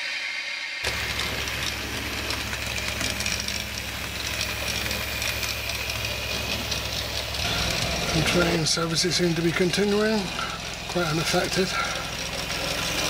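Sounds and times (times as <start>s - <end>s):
electric motor hum: 0.8s - 13.0s
wheels clicking on rails: 0.8s - 13.0s.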